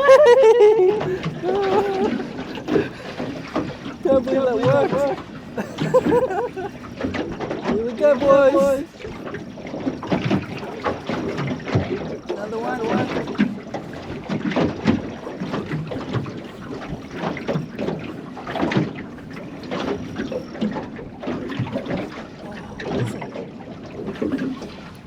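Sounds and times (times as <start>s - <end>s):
knocks and splashes: 0.0s - 25.0s
waves slapping boat hull: 0.0s - 25.0s
wind buffeting microphone: 0.0s - 25.0s.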